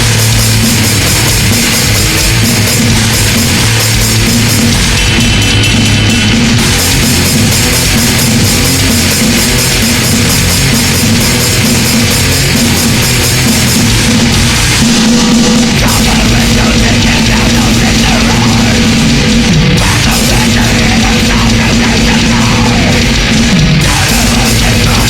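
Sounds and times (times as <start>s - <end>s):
drum kit blast beats: 0.0s - 25.0s
grindcore track with distorted guitars: 0.0s - 25.0s.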